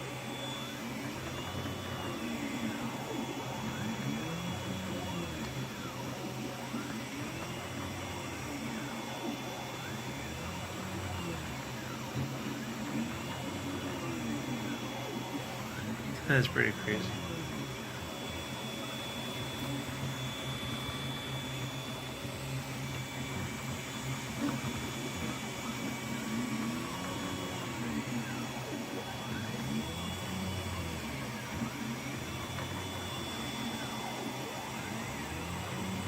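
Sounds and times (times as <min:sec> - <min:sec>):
printer stepper motors whining: 0:00.0 - 0:36.0
steady printer hum: 0:00.0 - 0:36.0.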